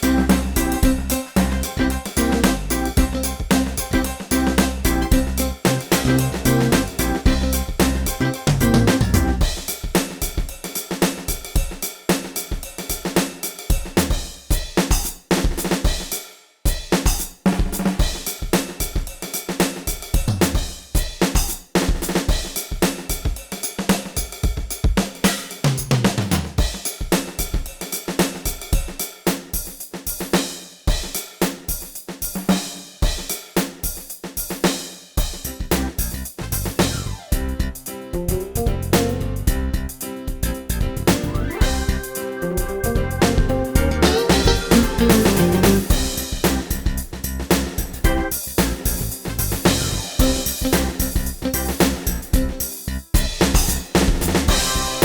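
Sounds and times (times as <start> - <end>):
rhythm and blues drum groove: 0.0 - 55.0.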